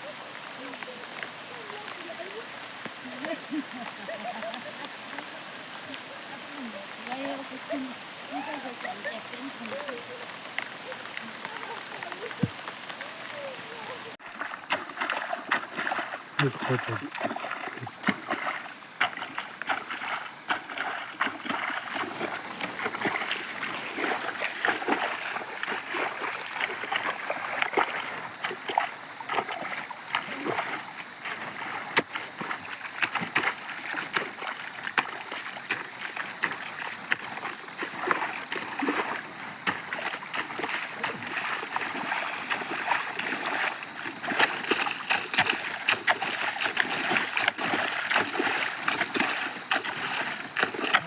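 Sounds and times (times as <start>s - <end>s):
water and mud splashing: 0.0s - 51.0s.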